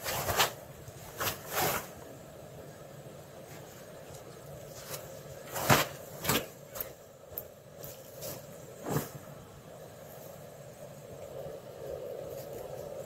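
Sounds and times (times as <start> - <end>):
camp stove burner hiss: 0.0 - 13.0.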